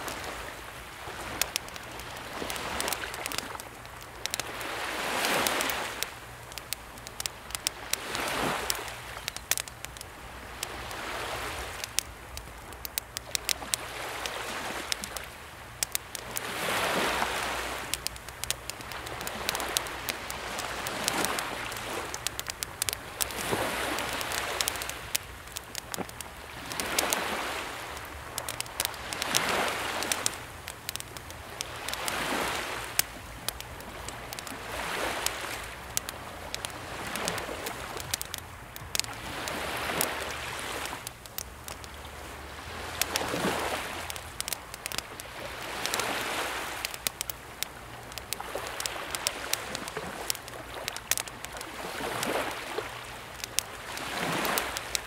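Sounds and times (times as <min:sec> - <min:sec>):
campfire crackling and popping: 0:00.0 - 0:55.0
small waves washing onto shore: 0:00.0 - 0:55.0.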